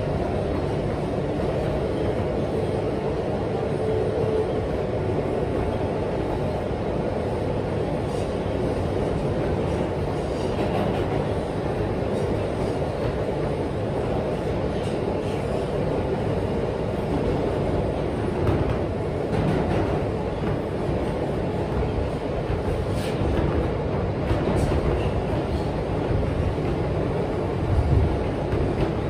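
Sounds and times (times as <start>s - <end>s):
subway wheels rumbling on rails: 0.0s - 29.0s.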